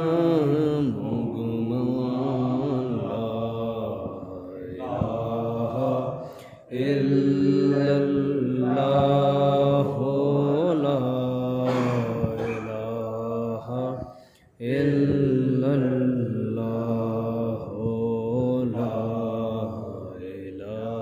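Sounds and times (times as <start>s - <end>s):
person chanting: 0.0s - 21.0s.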